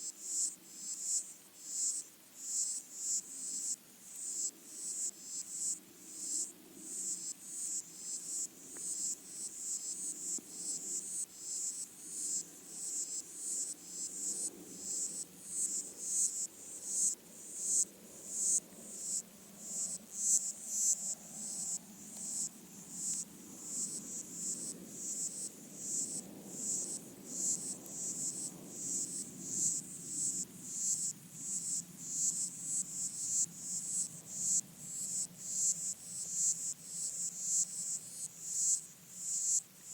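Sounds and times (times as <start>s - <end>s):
water insects stridulating underwater: 0.0s - 39.9s.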